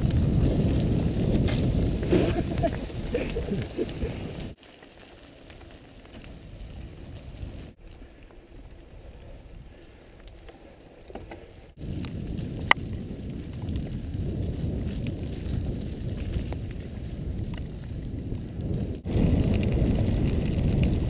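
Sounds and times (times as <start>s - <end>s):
bike tyre and wind rumble: 0.0s - 21.0s.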